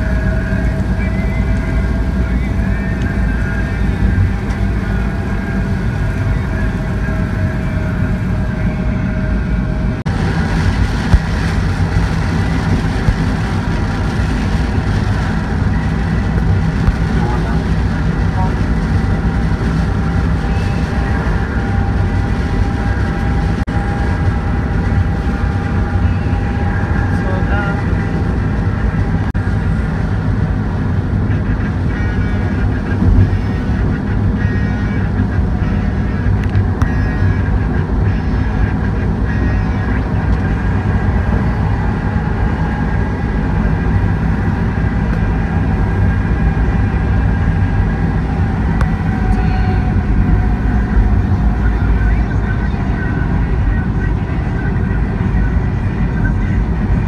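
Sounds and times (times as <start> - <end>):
car driving in heavy rain: 0.0 - 57.0.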